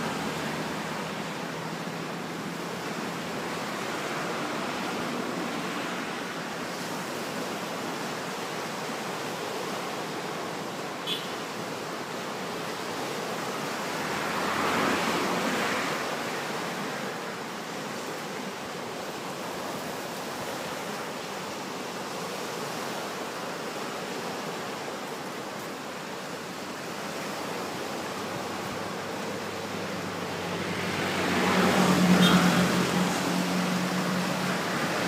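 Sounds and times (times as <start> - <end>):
waves on pebble beach: 0.0 - 35.0.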